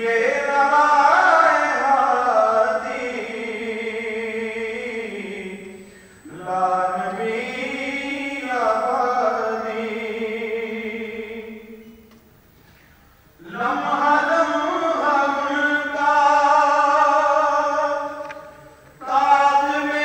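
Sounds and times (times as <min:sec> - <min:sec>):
person chanting: 0:00.0 - 0:11.8, 0:13.4 - 0:20.0.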